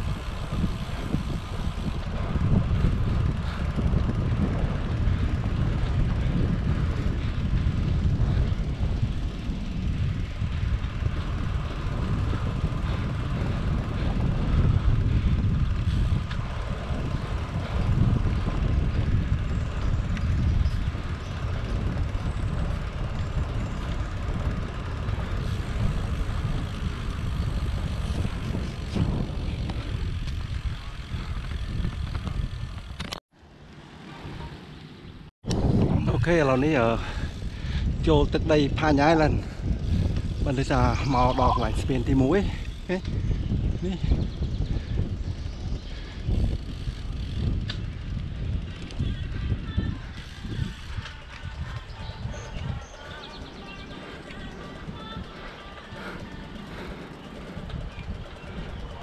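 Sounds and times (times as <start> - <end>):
wind rumbling on microphone: 0.0 - 33.2, 34.1 - 59.0.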